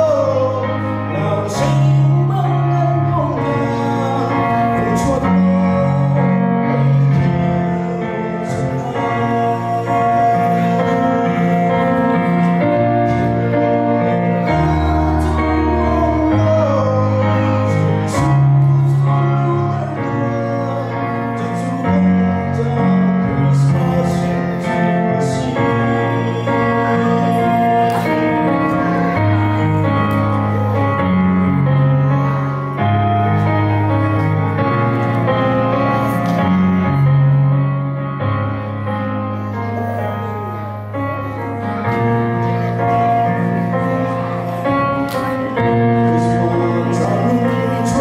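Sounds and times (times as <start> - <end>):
man singing into microphone: 0.0 - 37.2, 38.4 - 48.0
instrumental accompaniment: 0.0 - 48.0.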